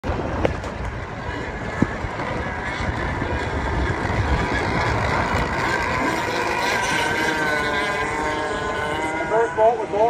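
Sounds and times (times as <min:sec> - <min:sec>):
racing boat engines: 0:00.0 - 0:10.0
wind buffeting microphone: 0:00.0 - 0:10.0.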